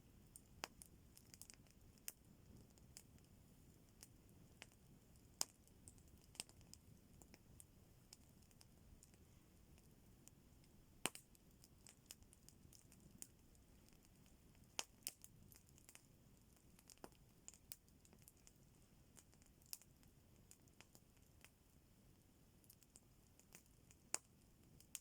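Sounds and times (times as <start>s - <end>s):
campfire crackling faintly: 0.0s - 25.0s.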